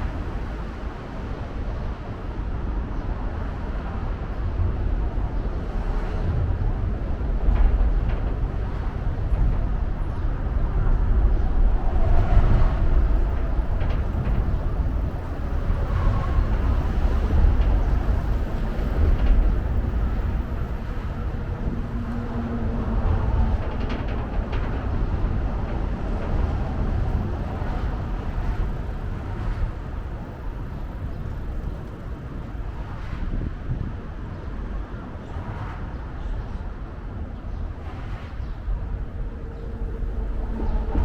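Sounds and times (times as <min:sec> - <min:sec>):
low rumble of passing vehicles: 0:00.0 - 0:41.0.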